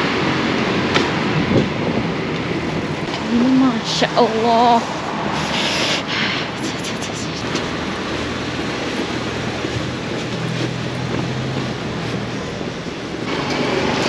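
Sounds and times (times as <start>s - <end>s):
low engine hum: 0.0s - 14.0s
tyres hissing on wet road: 0.0s - 14.0s.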